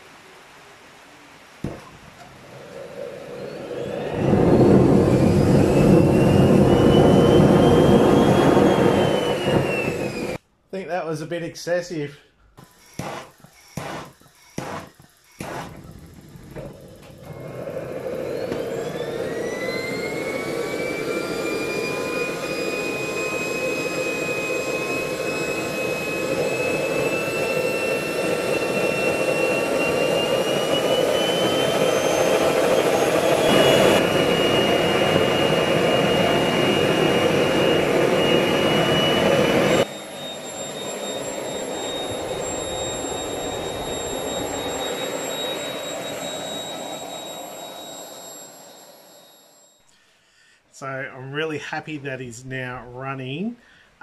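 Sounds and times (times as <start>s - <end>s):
jet turbine whine: 0.0s - 10.4s, 12.6s - 54.0s
rushing exhaust: 2.4s - 10.4s, 12.6s - 49.2s.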